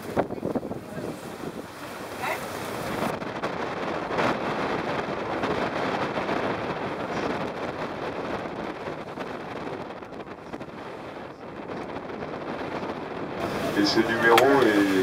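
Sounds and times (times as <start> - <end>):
choppy sea wash: 0.0 - 15.0
wind across microphone: 0.0 - 15.0.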